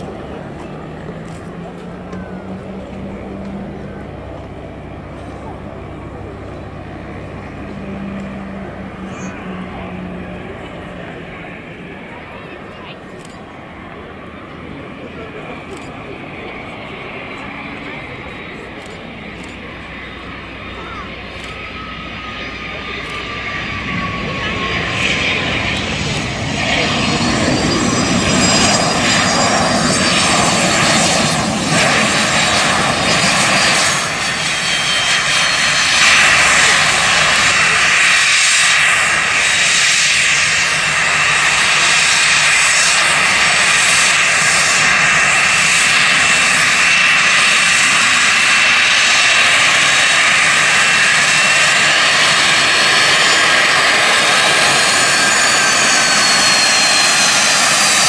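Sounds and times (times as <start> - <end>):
jet engines rushing and whining: 0.0 - 58.0.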